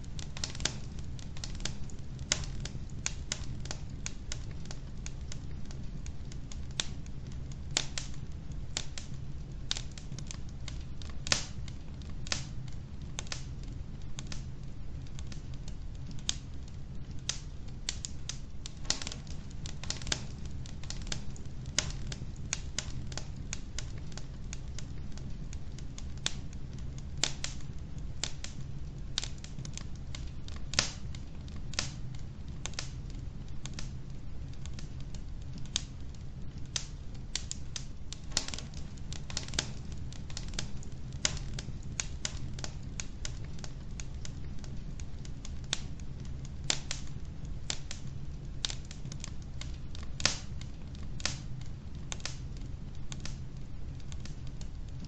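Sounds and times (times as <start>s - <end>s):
logs crackling and popping in fireplace: 0.0s - 55.0s
steady low rumble: 0.0s - 55.0s.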